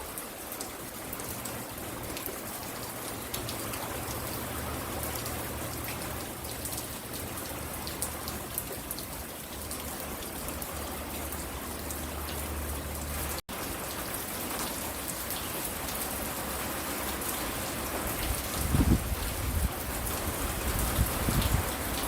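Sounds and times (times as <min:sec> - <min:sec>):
raindrops ticking close by: 0:00.0 - 0:22.0
steady rain falling: 0:00.0 - 0:22.0.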